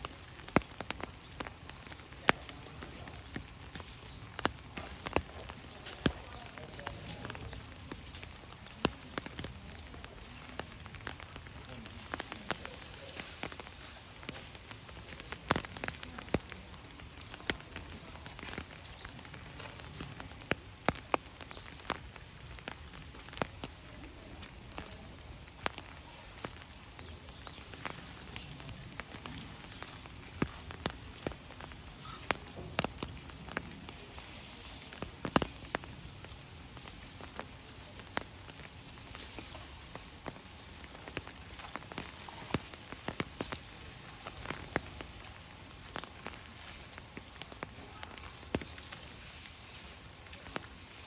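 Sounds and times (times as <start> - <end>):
sharp drips landing close: 0.0 - 51.0
steady rain falling: 0.0 - 51.0.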